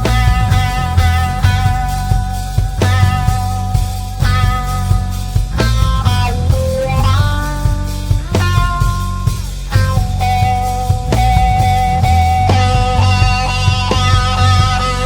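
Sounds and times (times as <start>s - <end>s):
bass guitar: 0.0s - 15.0s
drum kit: 0.0s - 15.0s
electric guitar melody: 0.0s - 15.0s.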